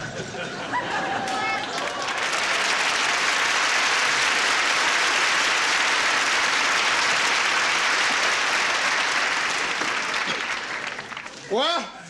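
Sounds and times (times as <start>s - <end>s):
audience applauding: 0.8s - 11.5s.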